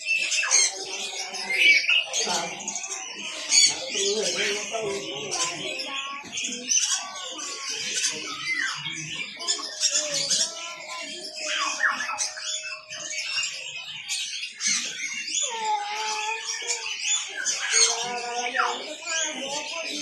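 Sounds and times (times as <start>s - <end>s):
caged birds chirping and squawking: 0.0s - 20.0s.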